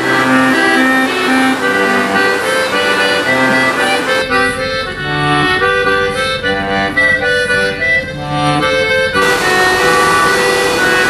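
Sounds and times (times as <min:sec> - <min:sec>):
accordion melody: 0:00.0 - 0:11.0
instrumental backing music: 0:00.0 - 0:11.0.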